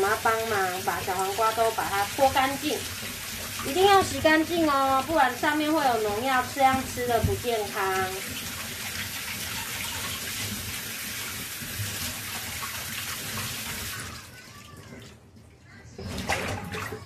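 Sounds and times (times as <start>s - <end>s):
tap water running into steel sink: 0.0s - 15.2s.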